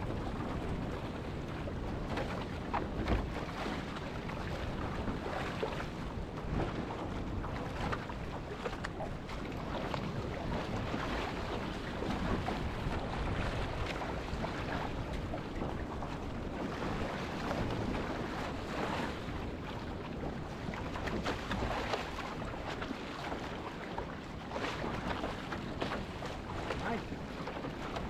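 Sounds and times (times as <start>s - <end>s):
seawater splashing around hull: 0.0s - 28.0s
wind rumbling on microphone: 0.0s - 28.0s.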